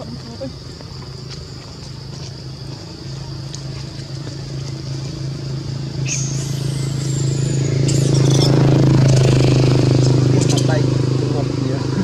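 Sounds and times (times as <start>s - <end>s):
steady engine hum: 0.0s - 12.0s.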